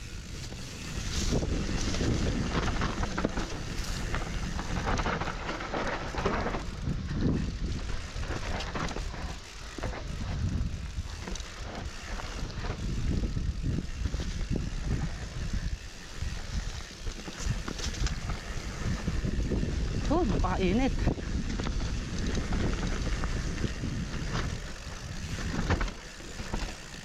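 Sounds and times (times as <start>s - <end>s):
bike chain and frame rattling: 0.0s - 27.0s
bike tyres on dirt: 0.0s - 27.0s.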